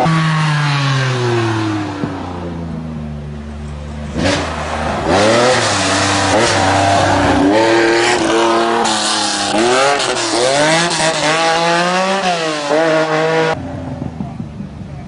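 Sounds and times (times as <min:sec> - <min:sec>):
rally car engine revving: 0:00.0 - 0:14.5.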